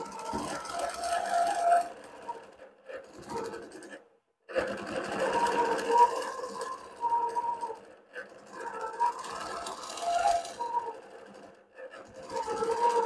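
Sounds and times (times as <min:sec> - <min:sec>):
quilting machine stitching: 0:00.0 - 0:13.0.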